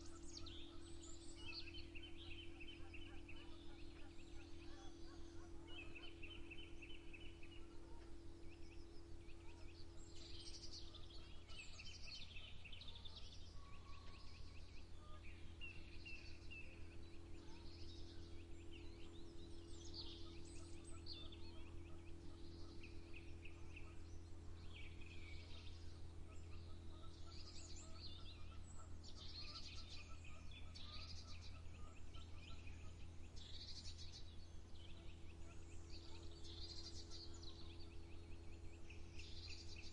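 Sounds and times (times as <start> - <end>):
songbirds chirping and trilling: 0.0 - 39.9
steady low hum: 0.0 - 39.9.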